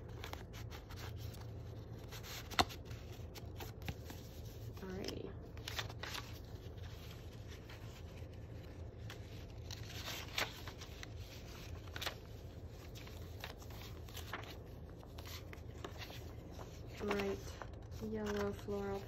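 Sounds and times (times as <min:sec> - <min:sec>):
low steady hum: 0:00.0 - 0:19.0
paper rustling: 0:00.0 - 0:19.0.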